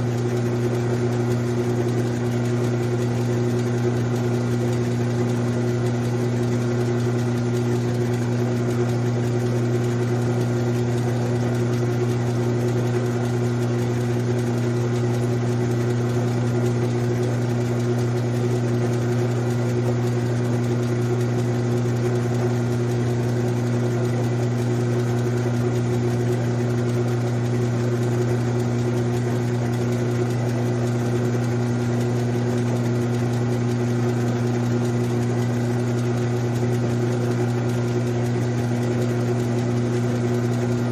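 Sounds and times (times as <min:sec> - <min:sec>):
lathe motor and gear hum: 0:00.0 - 0:40.9.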